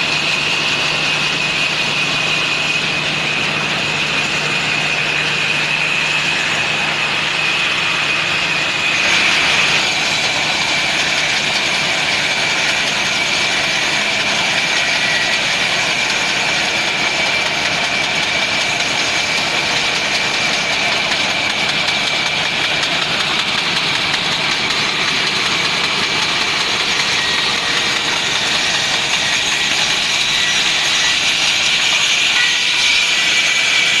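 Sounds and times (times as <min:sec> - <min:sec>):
high mechanical whine: 0:00.0 - 0:34.0
sawmill machine running: 0:00.0 - 0:34.0.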